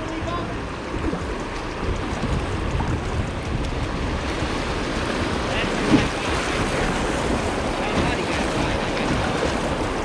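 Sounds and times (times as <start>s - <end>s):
floodwater rushing: 0.0s - 10.0s
wind buffeting microphone: 0.0s - 10.0s.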